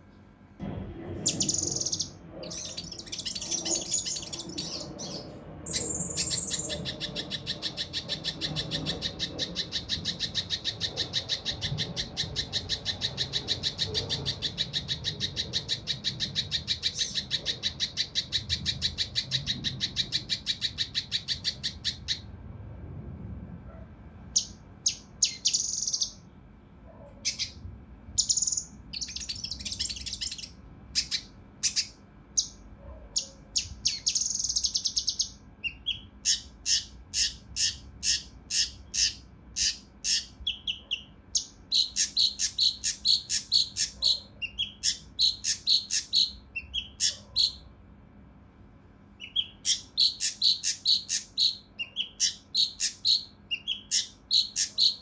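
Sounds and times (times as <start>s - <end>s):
bird singing rapid sharp notes: 1.2s - 22.3s, 24.4s - 26.2s, 28.2s - 32.6s, 33.2s - 47.6s, 49.2s - 55.0s
rough high bird calls and chirps: 1.2s - 22.3s, 24.4s - 26.2s, 27.2s - 27.6s, 28.2s - 32.6s, 33.2s - 47.7s, 49.2s - 55.0s.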